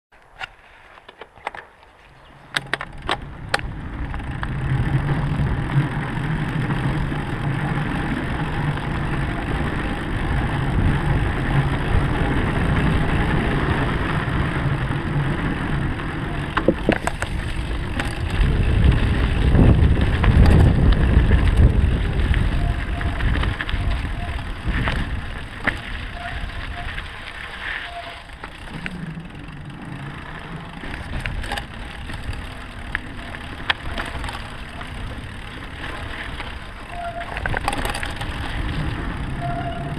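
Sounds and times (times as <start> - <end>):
bike tyres rumbling on wooden boards: 0.8 - 39.9.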